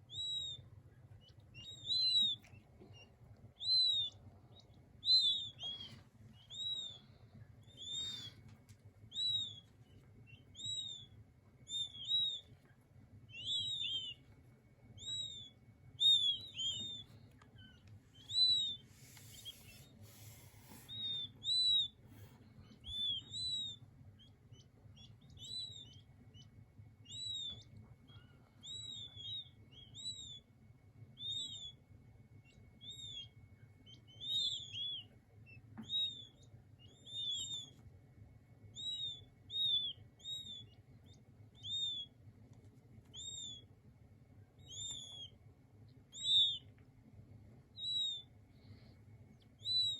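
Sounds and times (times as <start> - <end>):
quail chicks peeping: 0.0 - 49.9.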